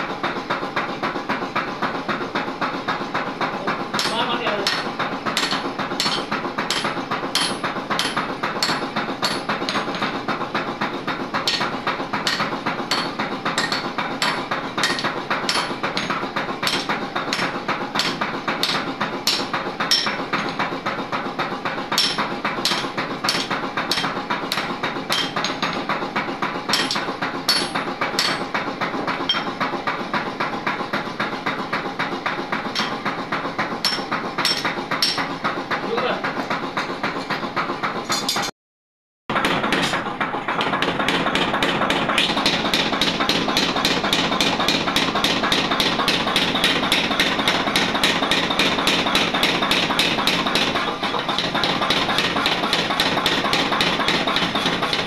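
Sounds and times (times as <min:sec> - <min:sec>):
hammer striking on anvil: 0:03.0 - 0:21.2, 0:21.9 - 0:37.4, 0:39.3 - 0:40.0, 0:40.6 - 0:55.0.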